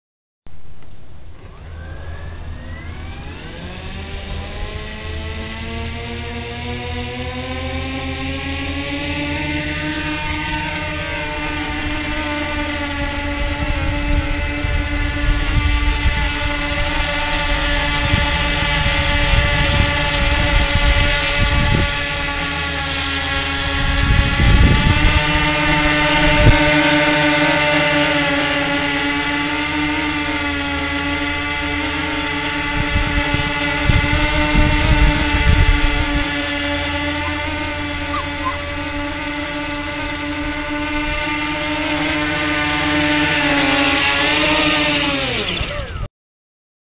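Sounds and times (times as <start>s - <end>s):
electric propellers whining: 0.6s - 46.1s
wind buffeting microphone: 1.4s - 46.0s.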